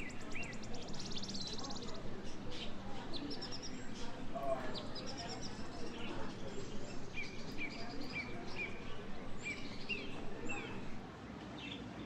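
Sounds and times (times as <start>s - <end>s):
finches chirping: 0.0s - 11.0s
low steady background noise: 0.0s - 12.0s.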